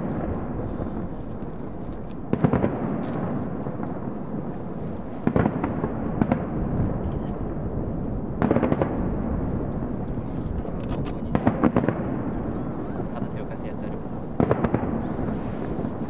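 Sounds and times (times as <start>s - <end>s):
fireworks cracks and bangs: 0.0s - 16.0s.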